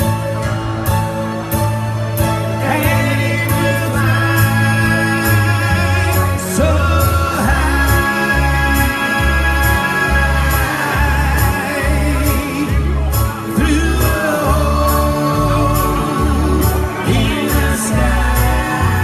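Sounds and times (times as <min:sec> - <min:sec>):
bass guitar: 0:00.0 - 0:19.0
drums: 0:00.0 - 0:19.0.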